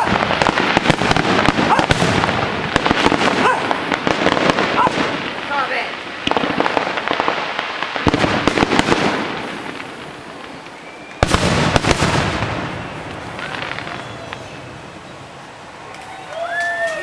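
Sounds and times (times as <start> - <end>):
fireworks bursting with loud bangs: 0.0 - 17.0
fireworks crackling: 0.0 - 17.0.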